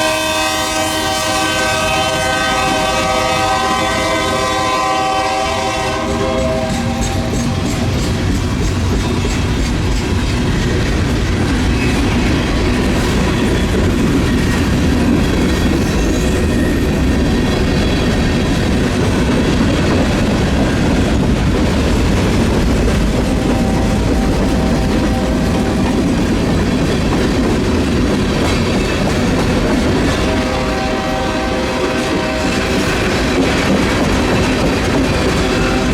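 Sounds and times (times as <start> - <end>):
freight train wheels clattering: 0.0 - 35.9.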